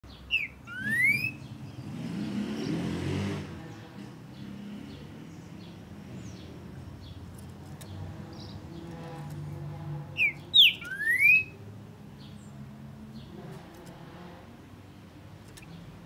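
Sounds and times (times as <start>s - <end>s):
passing vehicle rumble: 0.1s - 16.0s.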